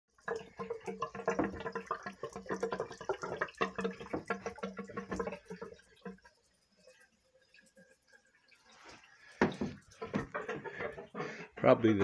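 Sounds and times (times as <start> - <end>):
water running into a sink: 0.1 - 12.0.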